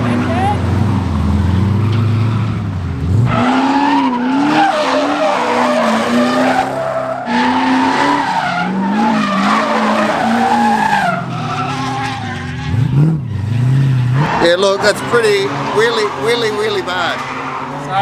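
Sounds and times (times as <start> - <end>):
car engine revving high: 0.0 - 18.0
tyres squealing and skidding: 0.0 - 18.0.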